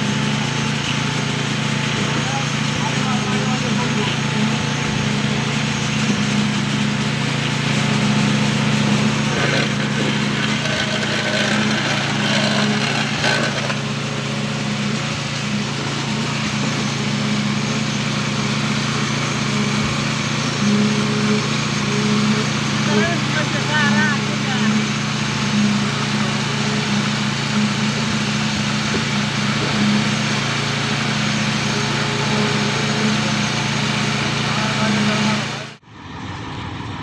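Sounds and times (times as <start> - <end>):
concrete pump engine running: 0.0 - 37.0.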